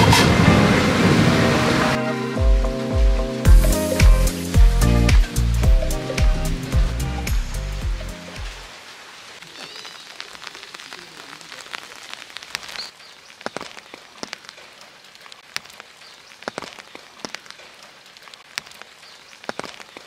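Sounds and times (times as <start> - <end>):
steady rain falling: 0.0 - 20.0
close raindrops landing: 2.6 - 20.0.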